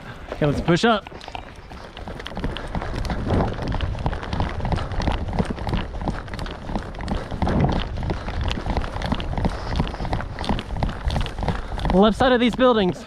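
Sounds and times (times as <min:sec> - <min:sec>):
running footsteps: 0:00.0 - 0:13.0
steady low rumble: 0:01.8 - 0:12.4.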